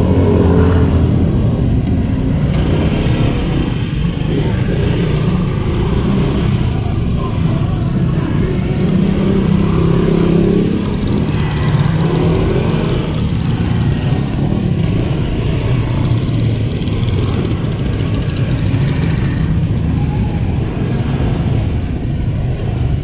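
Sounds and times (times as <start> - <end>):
small motorcycle engines running: 0.0 - 23.0.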